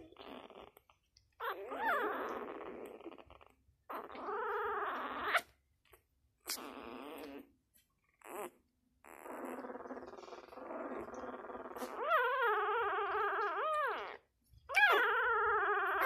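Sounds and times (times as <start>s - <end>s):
puppies whining and squealing: 0.0s - 16.0s.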